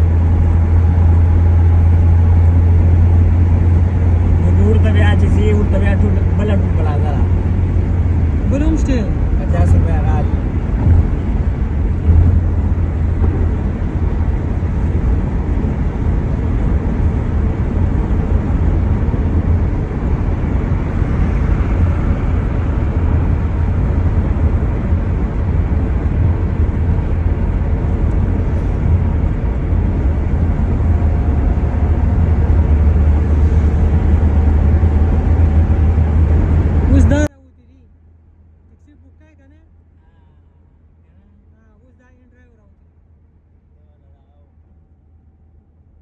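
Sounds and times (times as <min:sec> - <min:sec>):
vehicle rumble in motion: 0:00.0 - 0:46.0.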